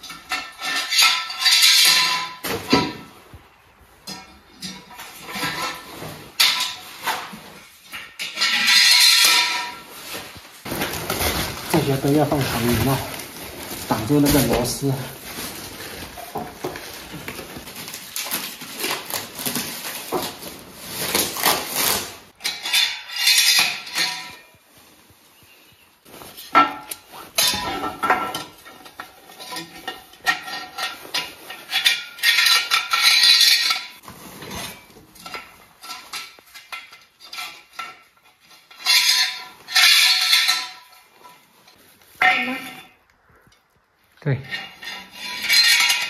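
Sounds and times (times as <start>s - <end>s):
metal railing parts clattering: 0.0s - 3.3s, 4.0s - 24.7s, 26.1s - 43.0s, 44.4s - 46.0s.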